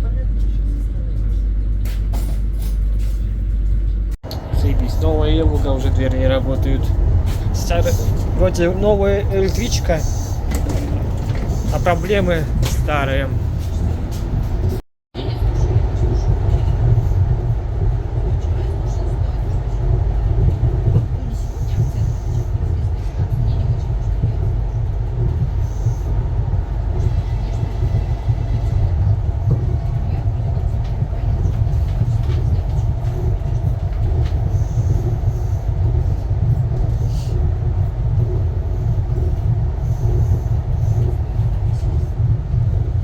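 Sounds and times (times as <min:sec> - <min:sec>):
electric train rumbling: 0:00.0 - 0:43.0.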